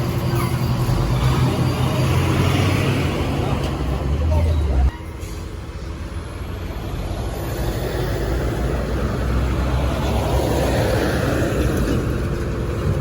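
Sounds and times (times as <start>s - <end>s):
diesel truck engine: 0.0s - 13.0s.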